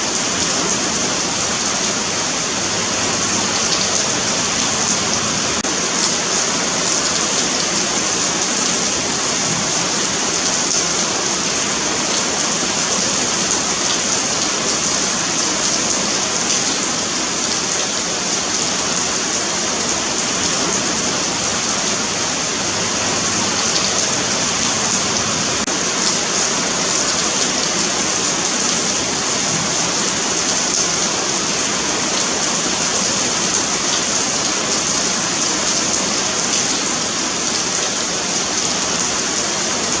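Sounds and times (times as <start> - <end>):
rain on pavement: 0.0 - 40.0.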